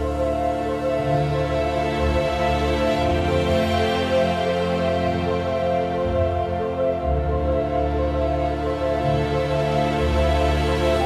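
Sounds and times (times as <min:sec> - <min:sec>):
slow sustained chords music: 0:00.0 - 0:11.0.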